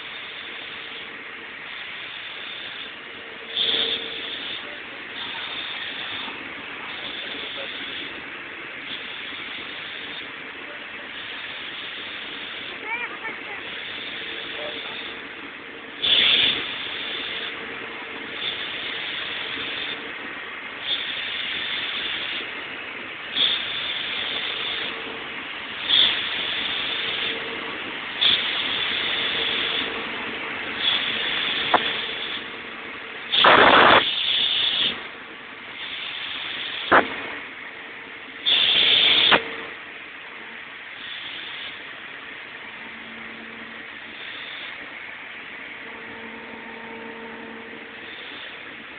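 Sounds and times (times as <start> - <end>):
air compressor hissing: 0.0 - 48.9
faint steady hum: 0.0 - 48.9.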